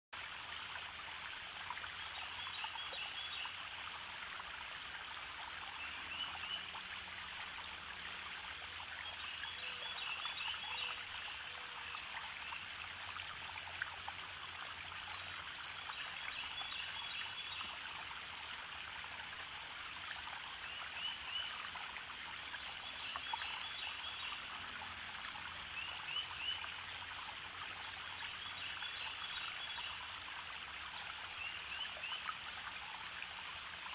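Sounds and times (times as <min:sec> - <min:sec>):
running water stream: 0:00.1 - 0:33.9.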